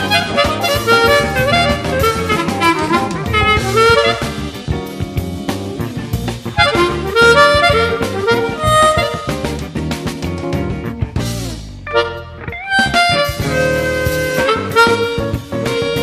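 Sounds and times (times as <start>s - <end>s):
backing track with bass and drums: 0.0s - 16.0s
bluesy harmonica melody: 0.0s - 16.0s.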